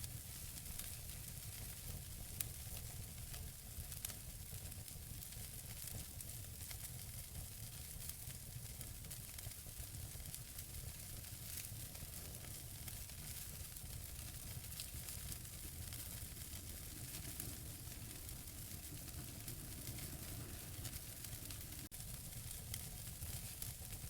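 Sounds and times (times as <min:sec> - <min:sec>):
small pops of fire: 0:00.0 - 0:24.0
wood logs burning crackling: 0:00.0 - 0:24.0.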